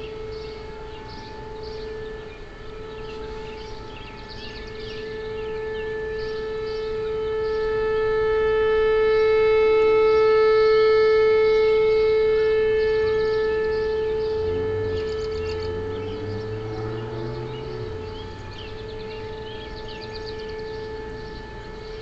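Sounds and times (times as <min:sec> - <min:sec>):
birds chirping: 0:00.0 - 0:22.0
lower siren tone: 0:00.0 - 0:22.0
warning siren steady tone: 0:00.0 - 0:22.0.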